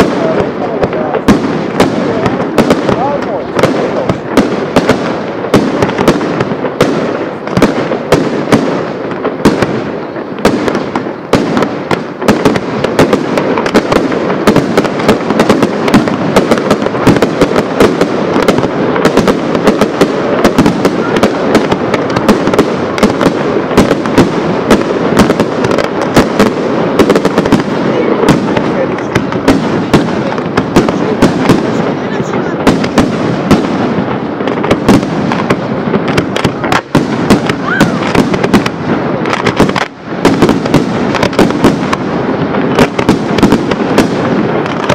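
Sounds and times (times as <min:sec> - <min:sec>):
continuous firework crackle: 0:00.0 - 0:44.9
firework shells bursting: 0:00.0 - 0:44.9.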